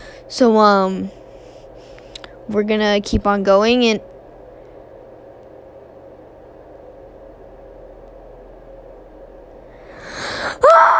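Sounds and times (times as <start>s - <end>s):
faint hum: 0.0s - 10.9s.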